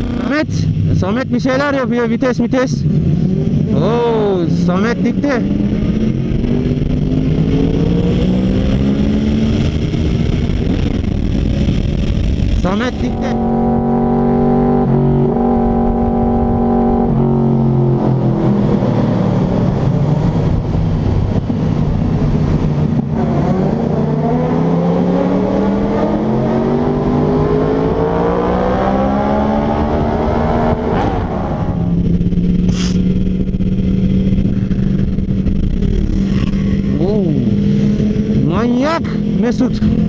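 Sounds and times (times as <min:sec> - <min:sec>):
motorcycle engines running: 0:00.0 - 0:40.0.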